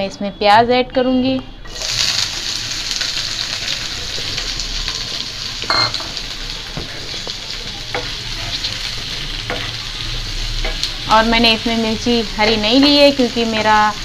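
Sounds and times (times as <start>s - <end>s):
onions sizzling in oil: 1.7s - 14.0s.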